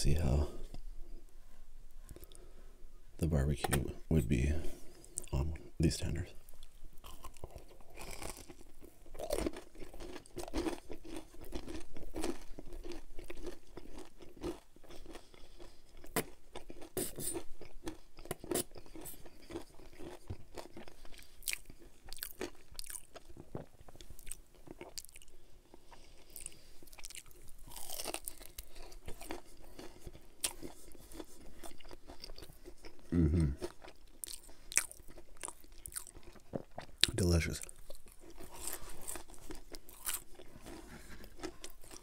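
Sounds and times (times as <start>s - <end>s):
crispy chicken crunching: 6.5s - 42.0s.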